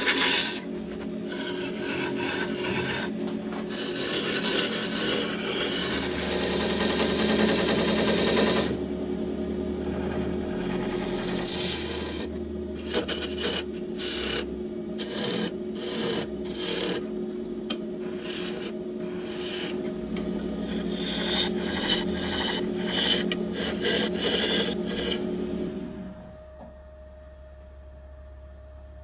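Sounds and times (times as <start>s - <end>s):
gouge scraping spinning wood: 0.0s - 8.8s, 9.8s - 25.5s
wood lathe motor hum: 0.0s - 26.2s.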